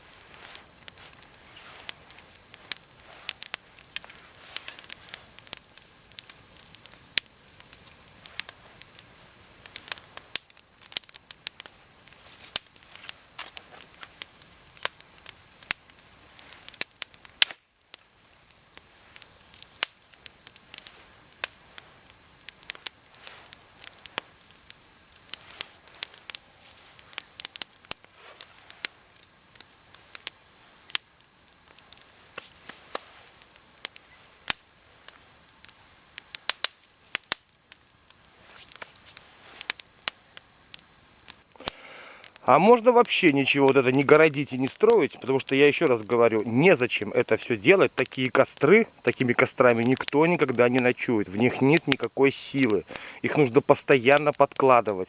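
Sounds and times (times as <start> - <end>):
campfire crackling and popping: 0.0 - 55.0
fire hissing: 0.0 - 55.0.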